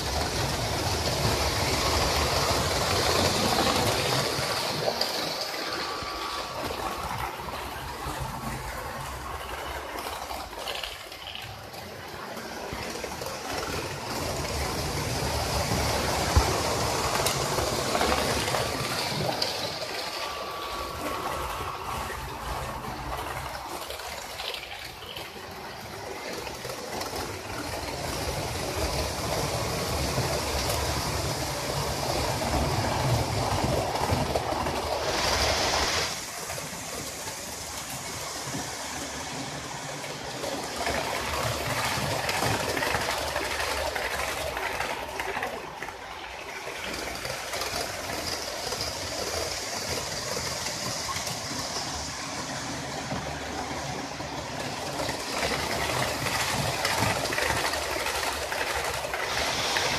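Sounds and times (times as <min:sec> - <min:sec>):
model train rumbling on track: 0:00.0 - 0:59.9.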